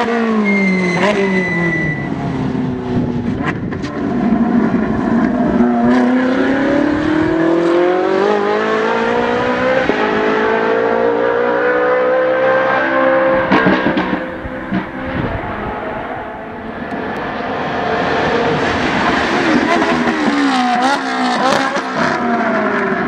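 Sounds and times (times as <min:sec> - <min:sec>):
car engine accelerating: 0:02.1 - 0:23.0.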